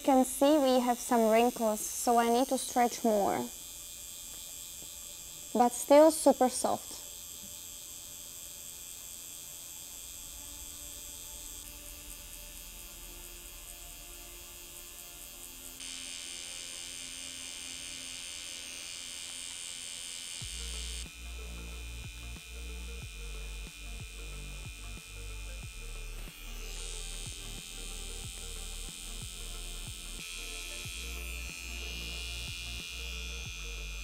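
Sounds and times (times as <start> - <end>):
tattoo machine electric whine: 0.0 - 34.0.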